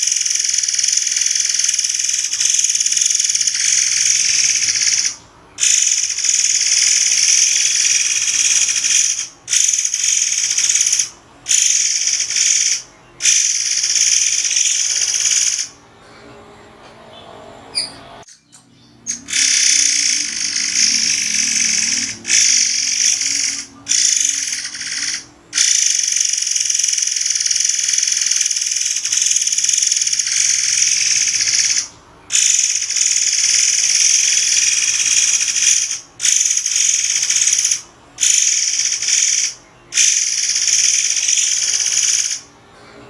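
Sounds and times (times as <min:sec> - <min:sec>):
songbird harsh rattling trills: 0:00.0 - 0:15.8, 0:17.8 - 0:42.5.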